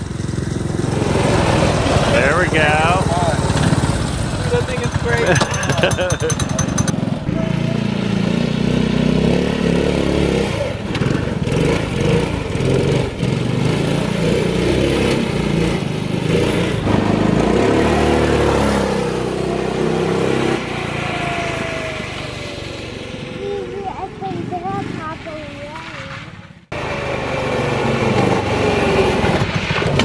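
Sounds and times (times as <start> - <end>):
small gas engine revving: 0.0 - 30.0.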